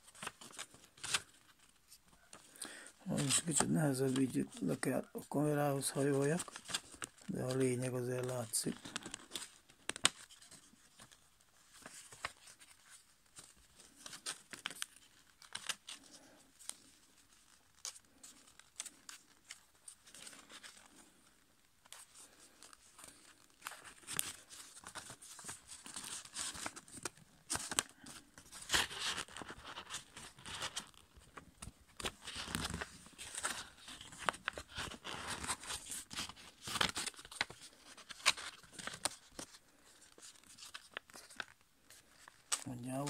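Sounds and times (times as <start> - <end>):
paper folding and crackling: 0.0 - 43.0.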